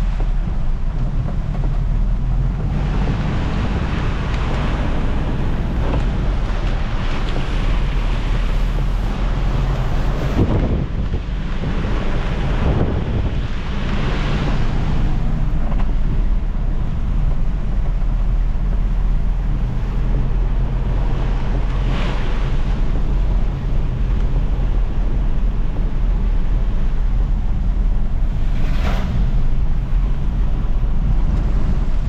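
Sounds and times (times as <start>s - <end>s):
low engine hum: 0.0s - 32.0s
road and wind noise: 0.0s - 32.0s.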